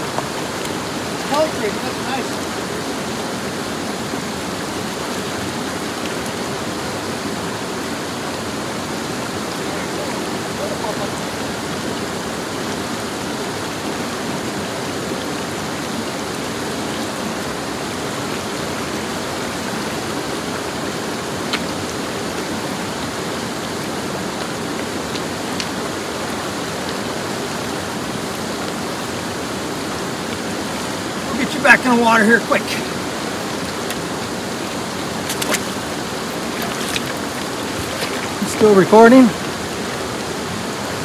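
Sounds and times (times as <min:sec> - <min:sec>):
creek water rushing over rocks: 0:00.0 - 0:41.0.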